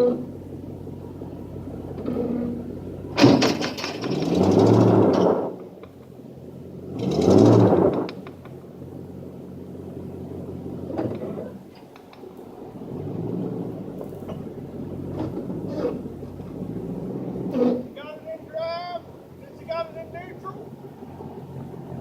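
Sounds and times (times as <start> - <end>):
pickup engine revving under load: 0.0 - 18.0.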